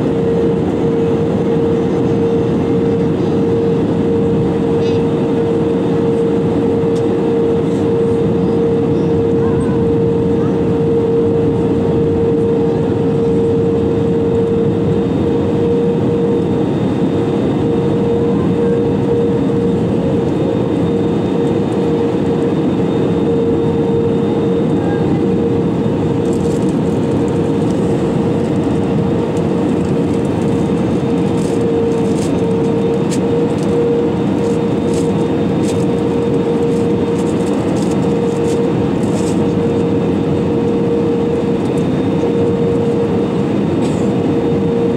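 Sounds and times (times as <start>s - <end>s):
aircraft cabin engine noise: 0.0s - 44.9s.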